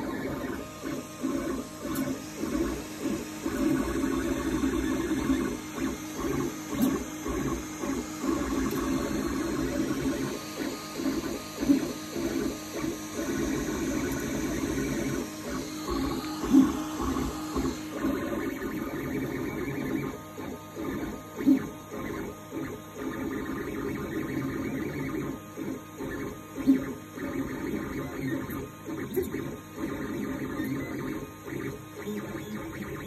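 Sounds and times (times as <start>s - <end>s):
printer motors buzzing: 0.0s - 33.0s.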